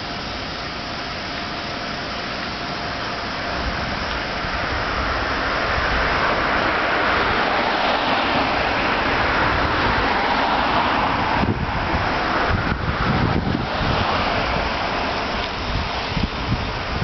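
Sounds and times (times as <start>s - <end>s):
street traffic rumble: 0.0s - 17.0s
wind buffeting microphone: 3.3s - 17.0s.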